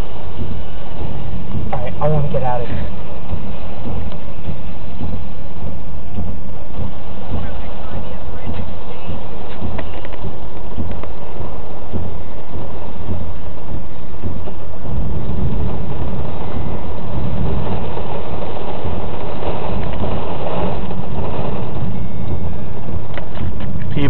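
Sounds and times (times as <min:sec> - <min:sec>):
deep low rumble: 0:00.0 - 0:24.0
heavy rain: 0:00.0 - 0:24.0
road noise: 0:00.0 - 0:24.0.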